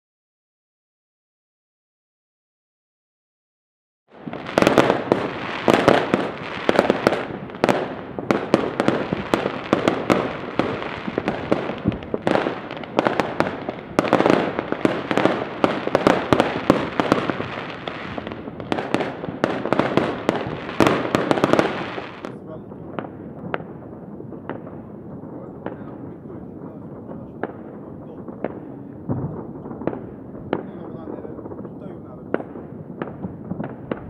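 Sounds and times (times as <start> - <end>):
fireworks crackling and banging: 4.1 - 34.0.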